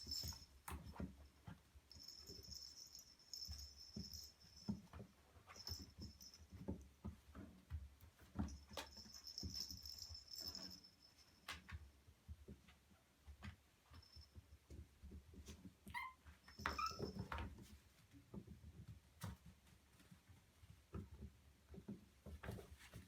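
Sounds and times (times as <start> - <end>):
soft rustling and shuffling: 0.0 - 23.0.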